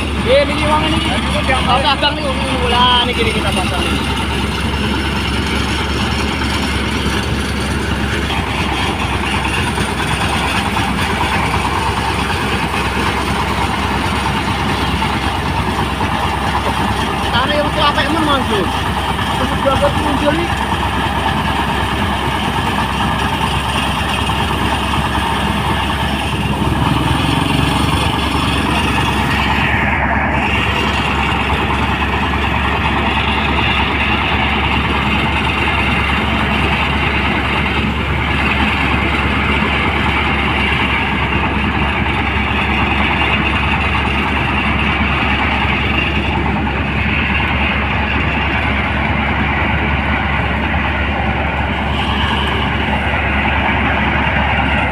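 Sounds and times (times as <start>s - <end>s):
rice thresher droning: 0.0s - 54.9s.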